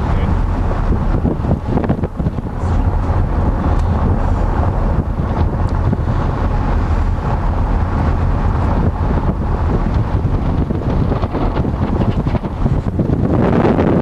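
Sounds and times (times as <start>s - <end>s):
car road noise: 0.0s - 14.0s
wind buffeting microphone: 0.0s - 14.0s.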